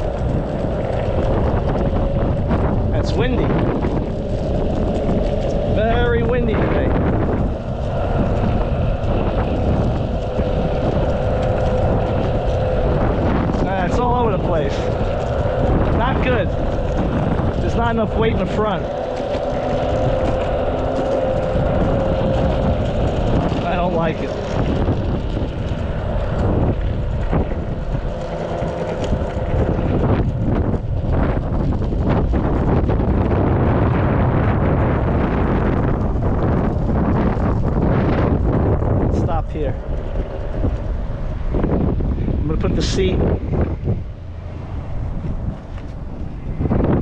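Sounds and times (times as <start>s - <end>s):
electric motor whine: 0.0s - 47.0s
wheels rolling over rough asphalt: 0.0s - 47.0s
wind buffeting microphone: 0.0s - 47.0s.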